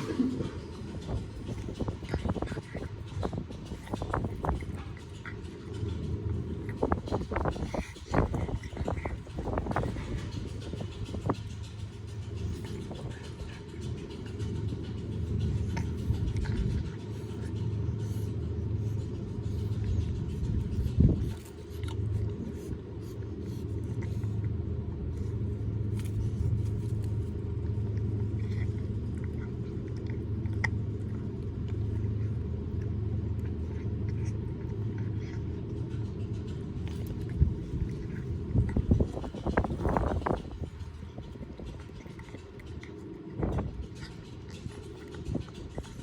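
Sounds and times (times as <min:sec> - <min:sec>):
cat chewing on a bone: 0:00.0 - 0:46.0
low rumble: 0:00.0 - 0:46.0.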